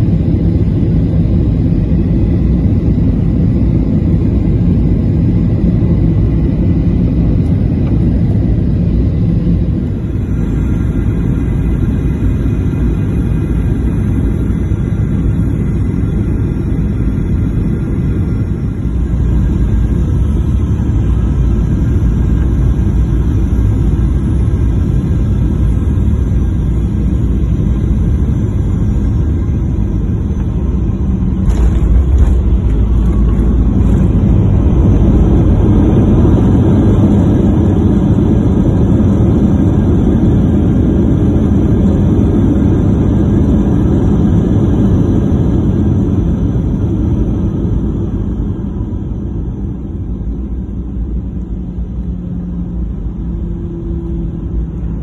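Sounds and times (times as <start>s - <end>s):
aeroplane cabin engine rumble: 0.0s - 55.0s.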